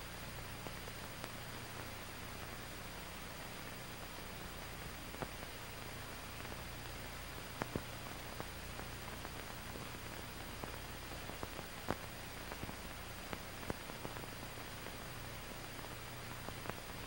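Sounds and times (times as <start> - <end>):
film soundtrack hiss: 0.0 - 17.0.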